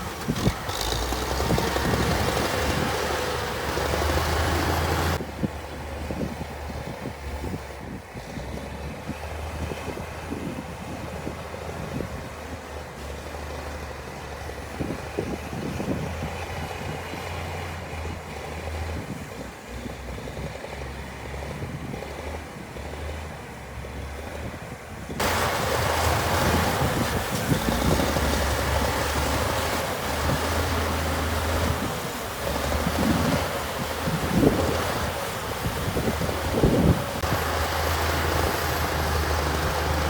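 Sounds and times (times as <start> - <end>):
diesel machinery rumbling: 0.0 - 40.0.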